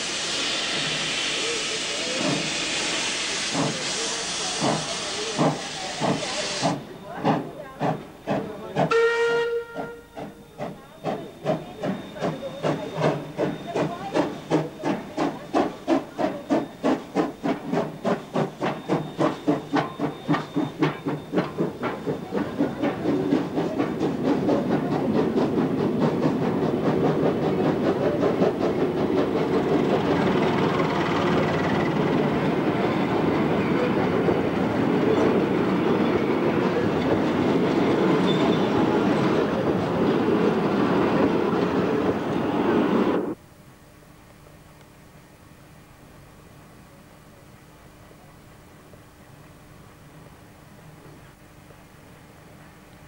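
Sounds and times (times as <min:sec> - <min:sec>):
steam locomotive puffing: 0:00.0 - 0:43.4
train wheels rolling on rails: 0:00.0 - 0:43.4.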